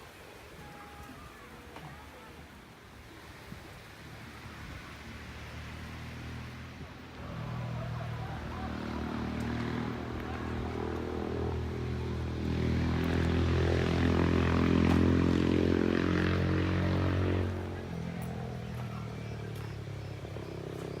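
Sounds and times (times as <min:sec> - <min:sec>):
engine running: 0:03.9 - 0:21.0.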